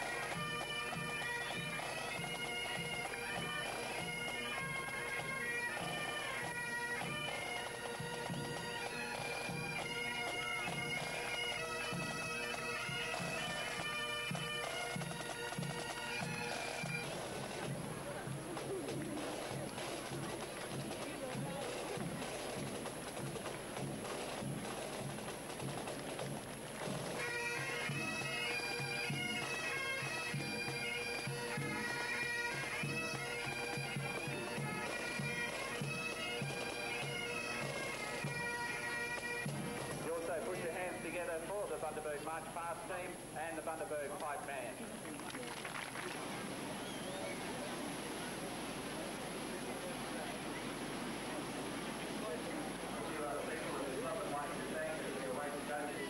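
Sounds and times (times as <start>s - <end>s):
bagpipes playing a march: 0.0s - 44.8s, 46.2s - 56.0s
drum beating marching rhythm: 0.0s - 56.0s.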